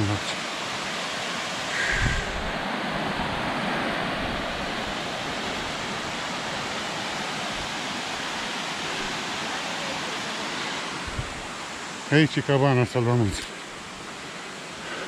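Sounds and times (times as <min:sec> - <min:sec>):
mountain water rushing: 0:00.0 - 0:15.0.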